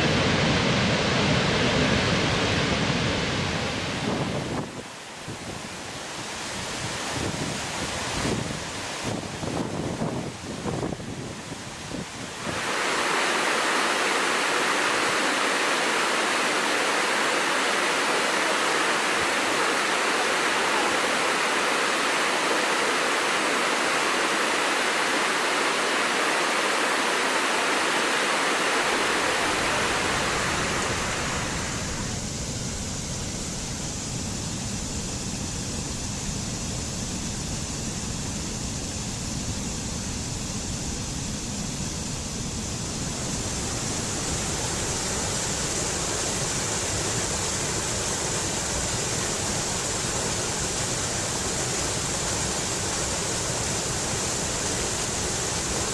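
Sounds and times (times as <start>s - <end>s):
running water rushing: 3.5s - 55.9s.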